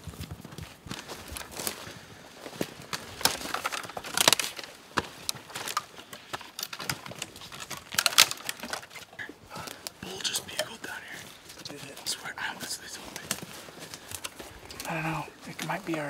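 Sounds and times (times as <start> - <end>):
footsteps snapping dry sticks: 0.0 - 16.0.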